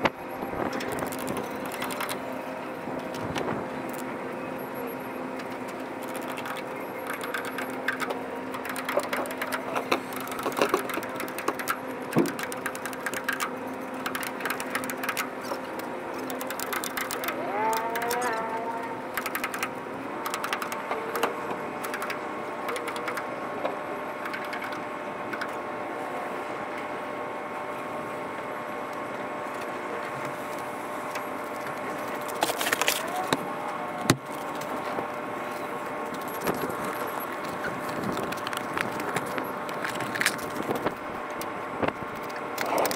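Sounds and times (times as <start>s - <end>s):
engine hum: 0.0s - 42.9s.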